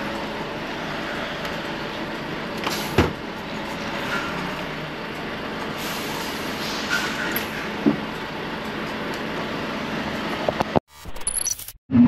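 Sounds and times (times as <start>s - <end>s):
truck diesel engine running: 0.0s - 10.7s.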